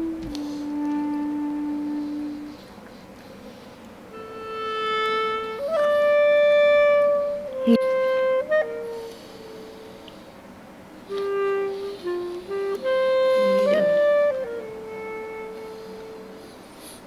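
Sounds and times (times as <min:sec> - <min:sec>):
slow woodwind melody: 0:00.0 - 0:17.0.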